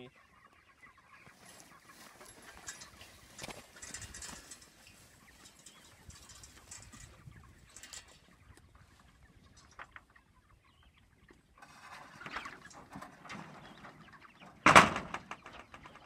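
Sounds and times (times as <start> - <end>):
chickens clucking and cheeping: 0.0 - 16.0.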